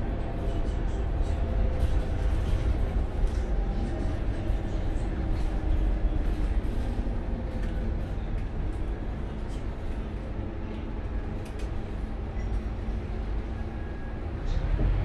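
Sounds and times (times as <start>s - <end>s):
bus engine low rumble: 0.0s - 15.0s.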